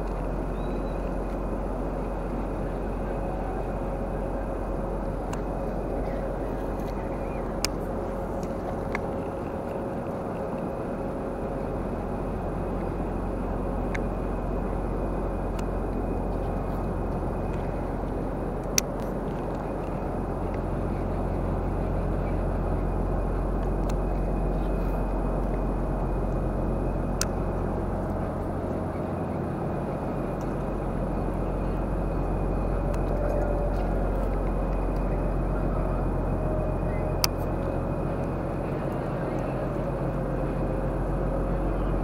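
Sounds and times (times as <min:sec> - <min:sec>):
low machinery hum: 0:00.0 - 0:42.0.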